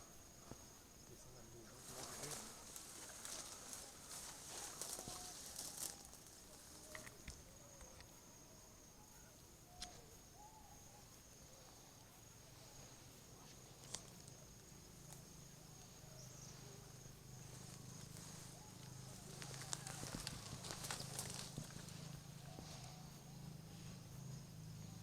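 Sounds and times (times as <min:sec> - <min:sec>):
faint chirps: 0:00.0 - 0:25.0
faint high-pitched hum: 0:00.0 - 0:25.0.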